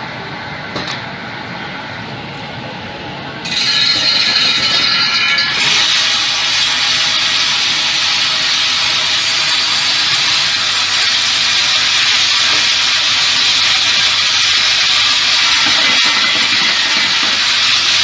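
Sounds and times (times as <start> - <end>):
machine hissing: 3.4 - 18.0.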